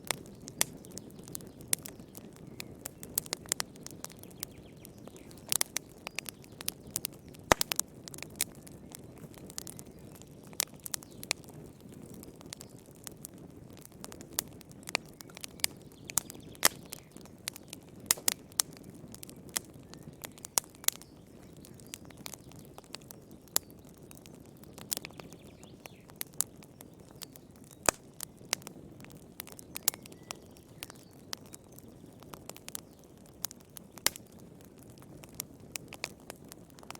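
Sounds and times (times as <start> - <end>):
fire crackling and popping: 0.0 - 36.9.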